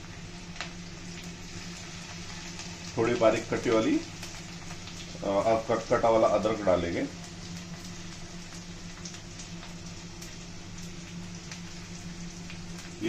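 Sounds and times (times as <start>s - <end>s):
food sizzling in hot oil: 0.0s - 13.0s
steady low hum: 0.0s - 13.0s.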